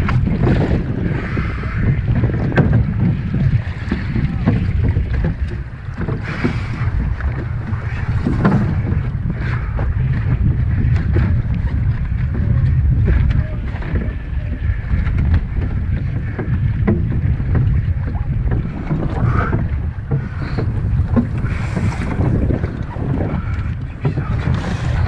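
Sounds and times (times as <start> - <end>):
water splashing around boat: 0.0 - 25.0
wind buffeting microphone: 0.0 - 25.0.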